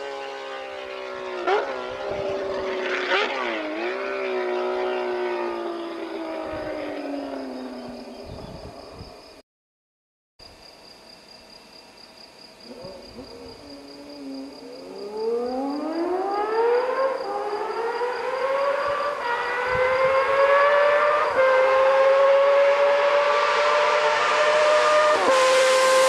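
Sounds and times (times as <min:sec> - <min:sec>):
motorcycle engine accelerating: 0:00.0 - 0:08.8, 0:12.7 - 0:26.0.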